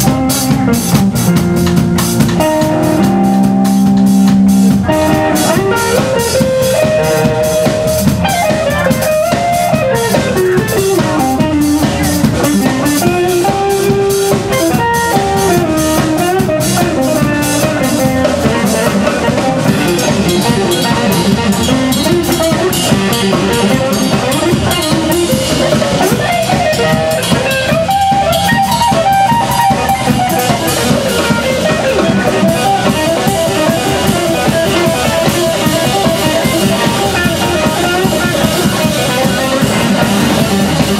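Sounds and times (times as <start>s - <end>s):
drum kit beat: 0.0s - 40.9s
sliding blues guitar lead: 0.0s - 40.9s.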